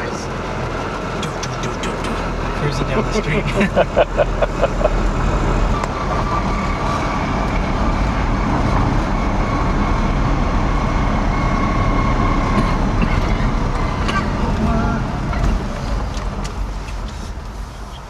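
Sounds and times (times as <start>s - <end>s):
road and tyre noise: 0.0s - 18.0s.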